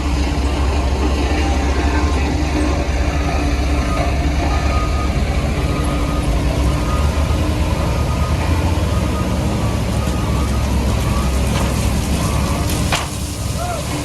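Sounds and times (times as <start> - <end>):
diesel machinery engine rumble: 0.0 - 14.0.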